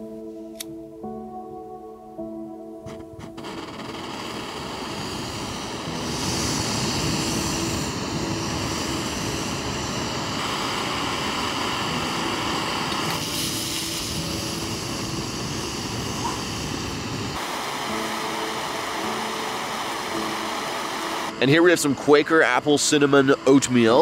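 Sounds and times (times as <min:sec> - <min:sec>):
gas stove flame hissing: 0:02.9 - 0:24.0.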